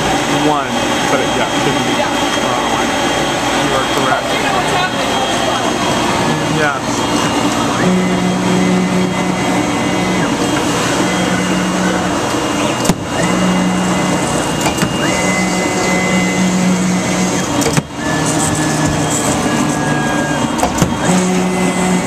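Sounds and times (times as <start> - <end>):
drive motors whining: 0.0 - 22.0.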